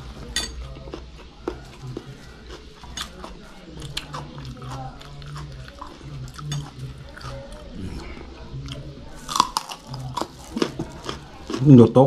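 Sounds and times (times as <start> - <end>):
chewing raw vegetables: 0.0 - 12.0.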